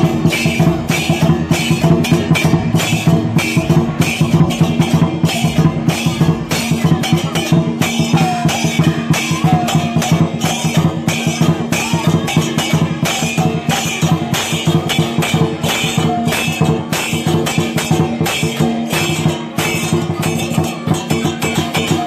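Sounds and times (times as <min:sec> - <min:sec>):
cymbal crashes: 0:00.0 - 0:22.0
drum cymbal and gong ensemble: 0:00.0 - 0:22.0.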